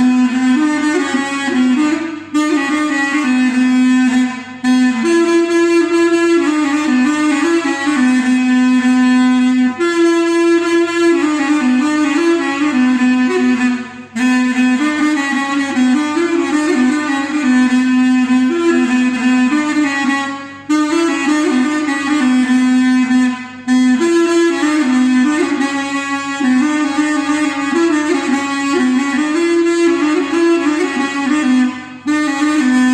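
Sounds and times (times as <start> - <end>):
reed wind instrument melody: 0.0 - 32.9.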